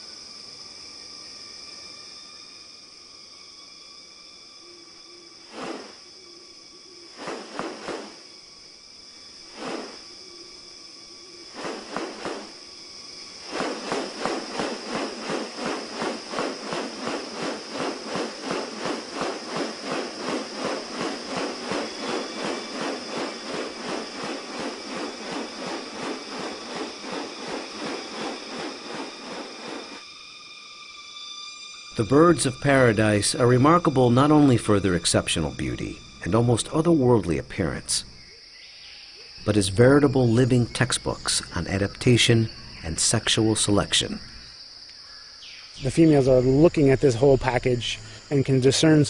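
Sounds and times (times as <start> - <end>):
high-pitched insect drone: 0.0 - 49.0.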